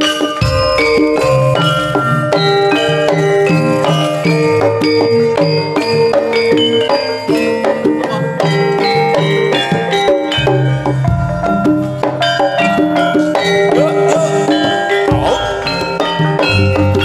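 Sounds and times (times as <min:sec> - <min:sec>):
drum strokes: 0:00.0 - 0:17.0
metallophones ringing: 0:00.0 - 0:17.0.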